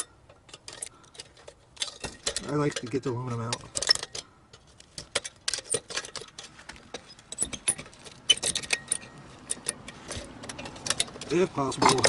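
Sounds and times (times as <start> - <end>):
screwdriver clinking on metal fins: 0.0 - 12.0.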